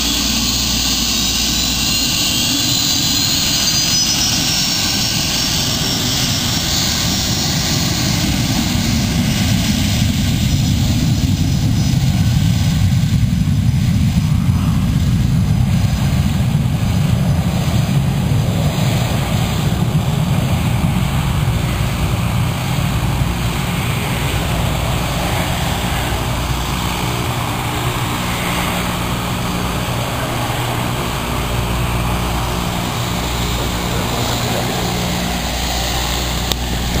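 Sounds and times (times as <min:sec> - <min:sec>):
aircraft engines at takeoff: 0:00.0 - 0:37.0.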